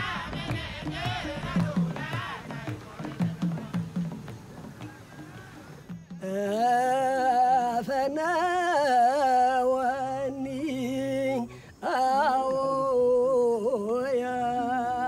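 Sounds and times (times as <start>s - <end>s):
man singing liturgical chant: 0.0s - 15.0s.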